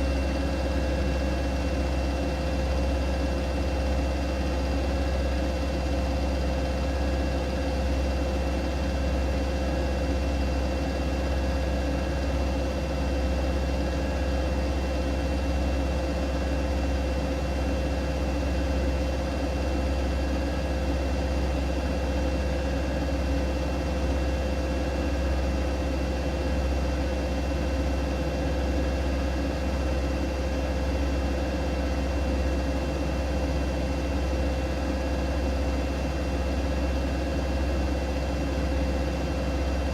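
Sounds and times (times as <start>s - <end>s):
washing machine hum and whine: 0.0s - 39.9s.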